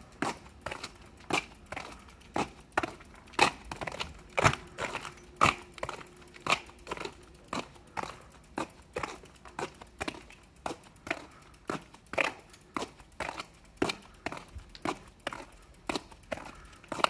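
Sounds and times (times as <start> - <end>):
faint steady hum: 0.0 - 17.0
footsteps on asphalt: 0.0 - 17.0.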